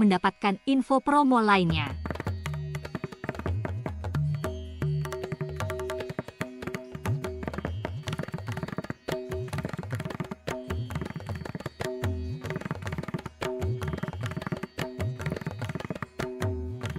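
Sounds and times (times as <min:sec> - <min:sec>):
hand drum music: 0:01.7 - 0:16.9.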